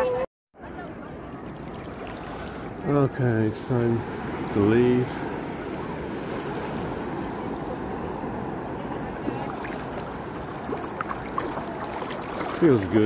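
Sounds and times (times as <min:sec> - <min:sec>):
light water splashes: 0:01.3 - 0:13.0
sea water sloshing: 0:01.4 - 0:03.0, 0:03.7 - 0:13.0.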